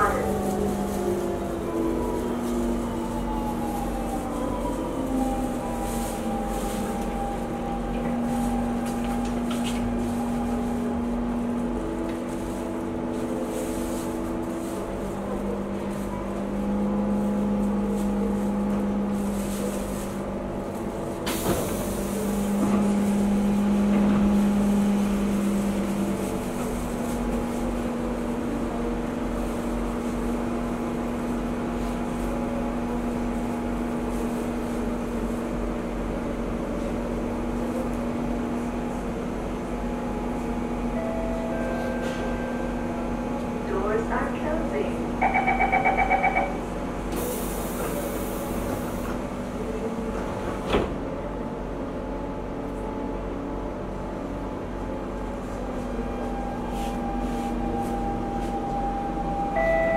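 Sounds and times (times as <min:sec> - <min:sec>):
train traction humming and whining: 0:00.0 - 0:59.9.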